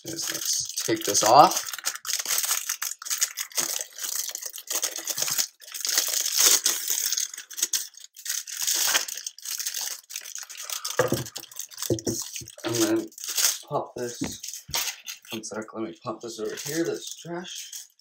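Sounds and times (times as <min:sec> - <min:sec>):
plastic packaging crinkling: 0:00.0 - 0:15.5, 0:16.3 - 0:18.0.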